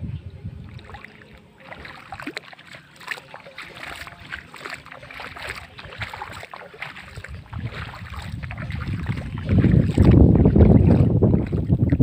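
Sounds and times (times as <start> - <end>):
wind rumble on microphone: 0.0 - 2.4, 3.8 - 12.0
shallow water splashing: 0.6 - 12.0.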